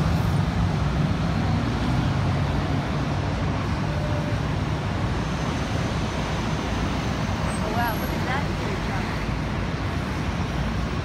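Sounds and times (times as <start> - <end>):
vehicles driving past: 0.0 - 11.0.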